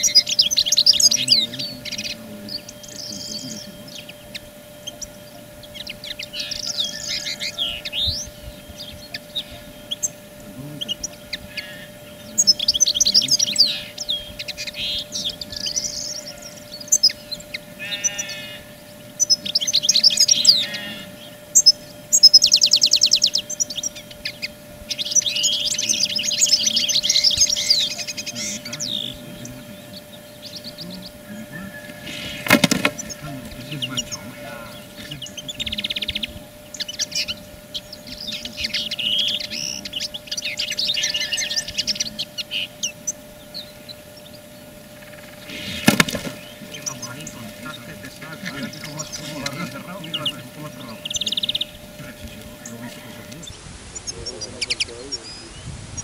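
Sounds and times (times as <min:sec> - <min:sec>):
songbirds twittering: 0:00.0 - 0:56.0.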